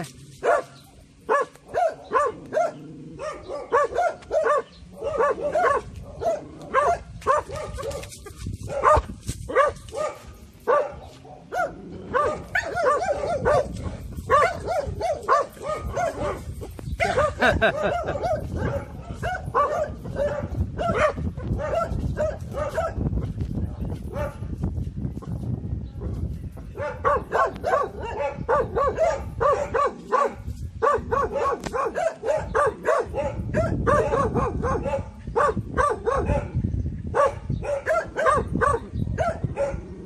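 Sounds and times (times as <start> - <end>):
dog barking: 0.4 - 23.0, 24.1 - 24.4, 26.7 - 39.9.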